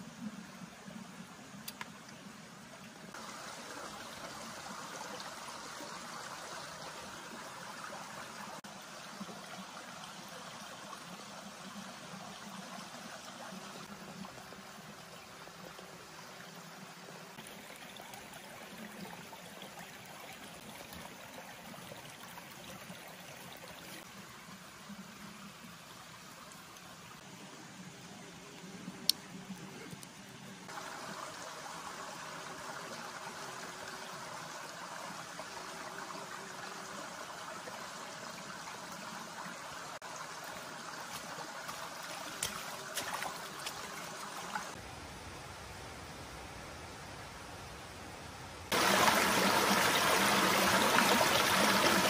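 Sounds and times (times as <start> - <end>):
stream trickling: 0.0 - 44.9, 48.7 - 52.0.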